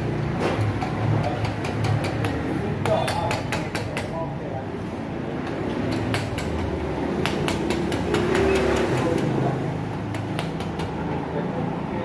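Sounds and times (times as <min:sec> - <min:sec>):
sharp metallic clicks and taps: 0:00.4 - 0:04.2, 0:05.4 - 0:11.2.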